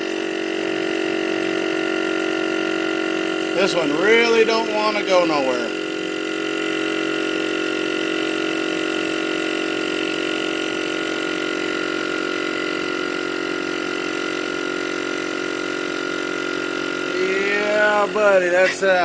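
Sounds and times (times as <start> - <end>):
air compressor humming: 0.0 - 19.0.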